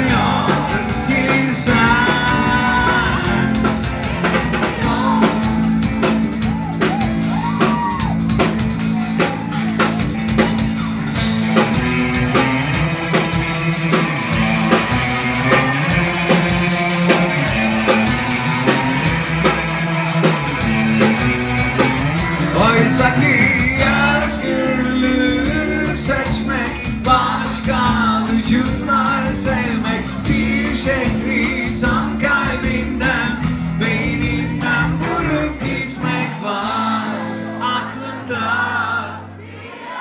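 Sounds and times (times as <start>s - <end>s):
live rock band playing: 0.0s - 39.2s.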